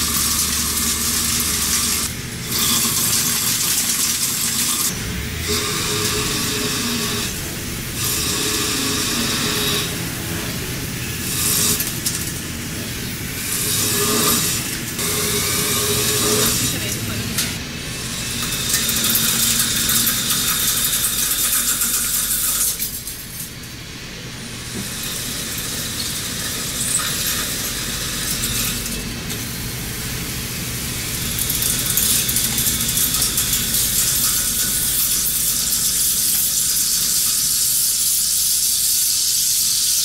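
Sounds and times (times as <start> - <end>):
coolant spray: 0.0 - 40.0
lathe machining hiss: 0.0 - 40.0.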